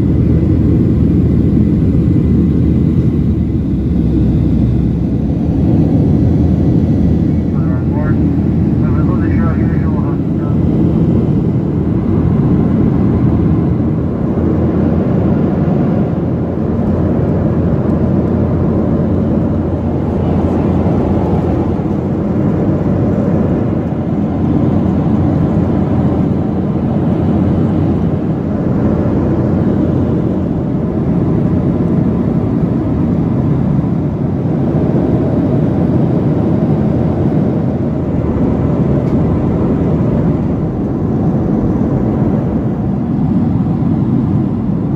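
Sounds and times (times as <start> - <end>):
airplane cabin noise: 0.0 - 44.9.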